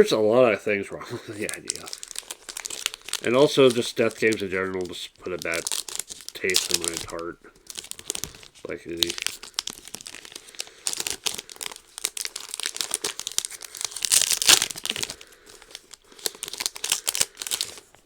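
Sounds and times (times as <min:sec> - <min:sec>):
card pack wrappers crinkling and tearing: 0:01.3 - 0:18.0.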